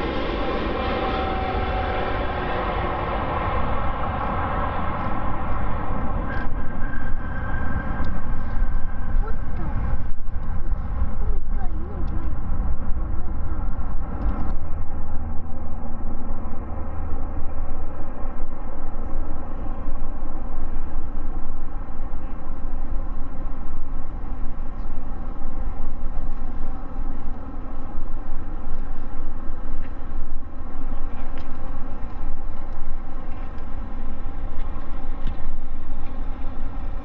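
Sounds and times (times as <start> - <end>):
jet engines rumbling and whining: 0.0 - 37.0.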